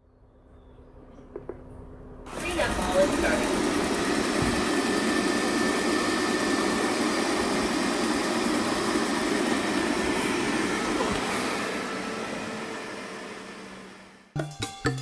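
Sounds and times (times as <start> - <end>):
robot vacuum running: 2.3 - 14.3.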